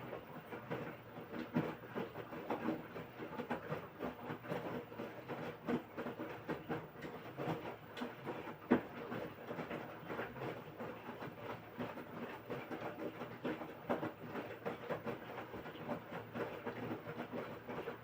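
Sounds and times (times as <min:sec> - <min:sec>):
washing machine tumbling laundry: 0:00.0 - 0:18.0
water sloshing in drum: 0:00.0 - 0:18.0.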